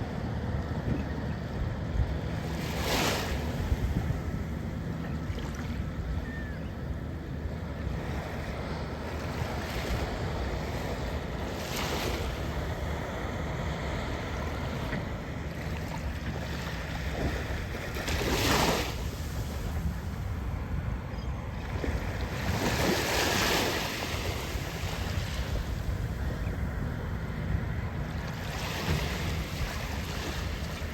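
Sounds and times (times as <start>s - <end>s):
wind buffeting microphone: 0.0s - 30.9s
waves washing on beach: 1.4s - 6.0s, 7.6s - 21.1s, 21.7s - 30.9s.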